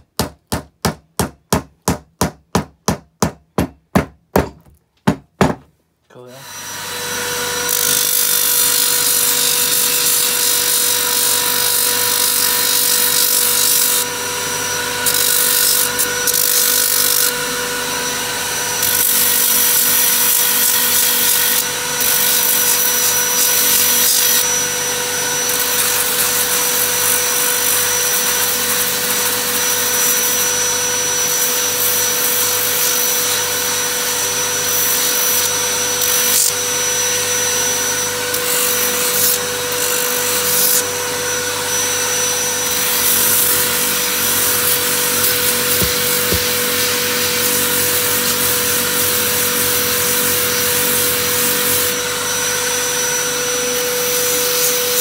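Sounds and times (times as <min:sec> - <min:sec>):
sanding drum whine: 0:06.5 - 0:55.0.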